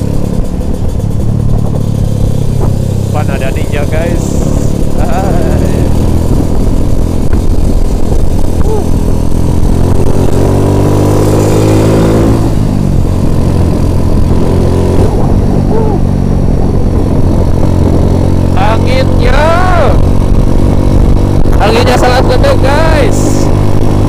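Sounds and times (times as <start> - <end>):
motor scooter engine running: 0.0 - 24.0
wind noise on microphone: 0.0 - 24.0.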